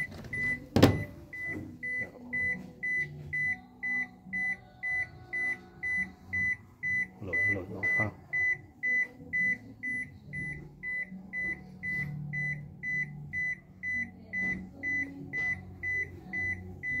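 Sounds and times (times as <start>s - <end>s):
washing machine beeping: 0.0s - 17.0s.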